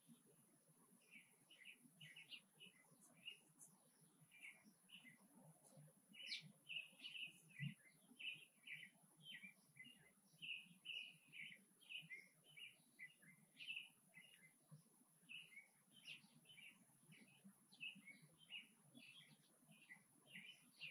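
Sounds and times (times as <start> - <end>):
bird chirping: 0.9 - 20.9.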